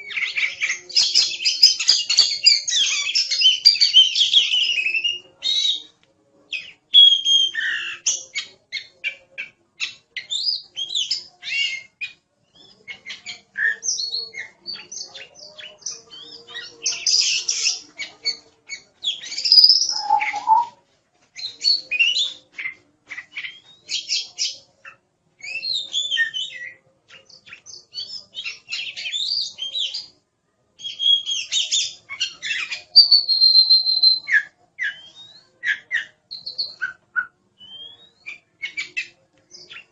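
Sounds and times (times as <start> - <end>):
magpie-robin singing: 0.0 - 5.9, 6.5 - 20.8, 21.4 - 30.1, 30.8 - 39.9.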